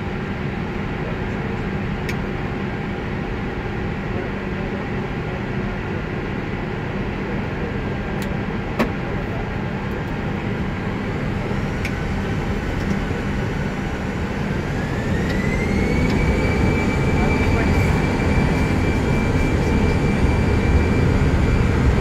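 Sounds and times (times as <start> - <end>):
cockpit engine hum: 0.0 - 22.0
jet engines spooling up whine: 0.0 - 22.0.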